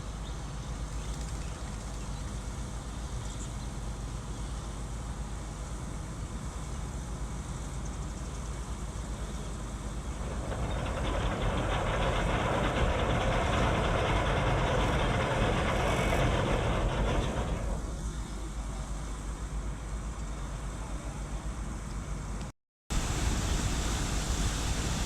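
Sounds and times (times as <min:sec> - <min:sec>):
large engine rumbling: 0:00.0 - 0:25.0.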